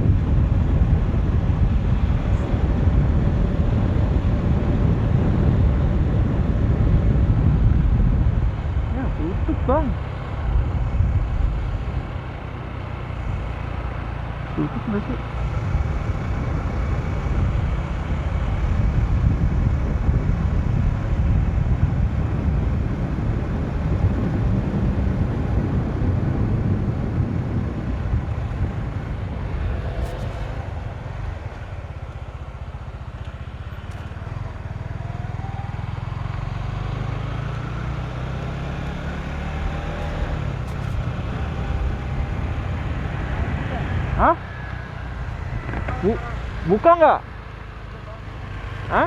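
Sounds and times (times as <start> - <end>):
motorcycle engine revving: 0.0 - 49.0
wind and road noise: 0.0 - 49.0.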